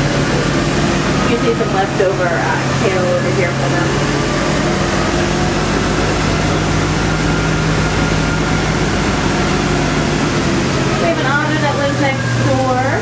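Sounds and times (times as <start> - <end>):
bus engine humming: 0.0 - 13.0.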